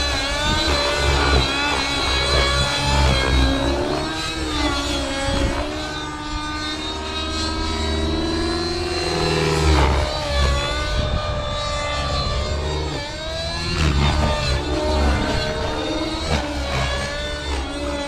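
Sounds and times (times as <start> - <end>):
rc helicopter engine whine: 0.0 - 18.0.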